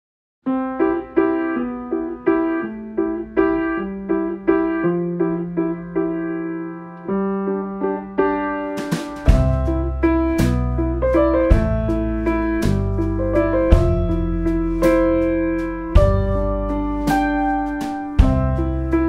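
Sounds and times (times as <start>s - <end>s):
gentle piano melody: 0.4s - 19.0s.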